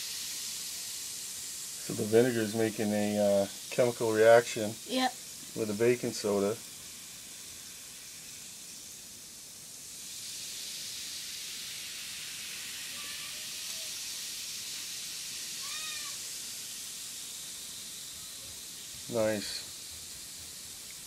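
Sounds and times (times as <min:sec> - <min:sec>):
fizzing hiss of bubbling: 0:00.0 - 0:21.0.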